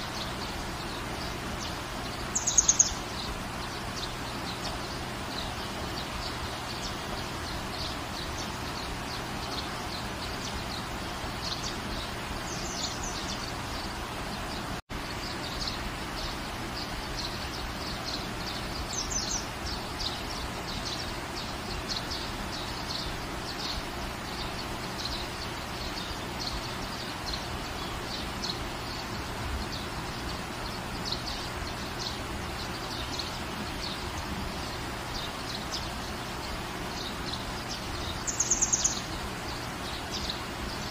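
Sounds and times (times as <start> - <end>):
small birds chirping: 0.0 - 40.9
steady rain hissing: 0.0 - 40.9.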